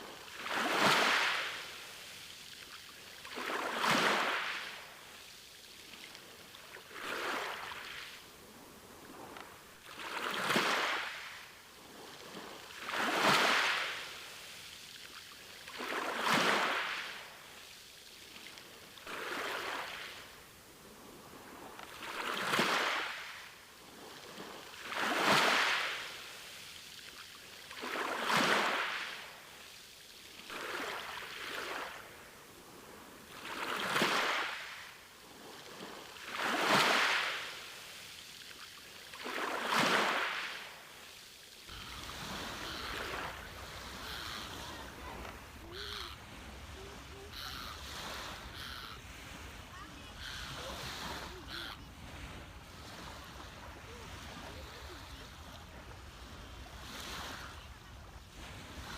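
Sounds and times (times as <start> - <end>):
small waves washing onto beach: 0.0 - 58.9.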